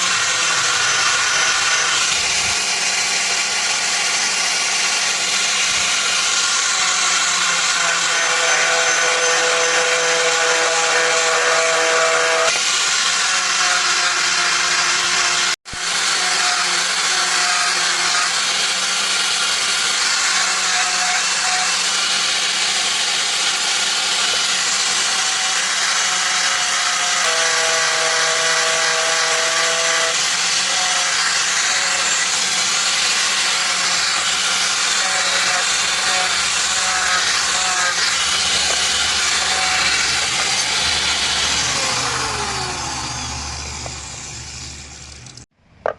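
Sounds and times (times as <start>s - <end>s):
electric power tool running: 0.0s - 45.5s.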